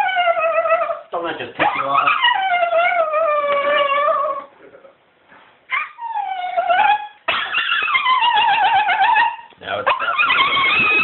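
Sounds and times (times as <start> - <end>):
dog whining and howling: 0.0 - 4.5, 5.7 - 11.0.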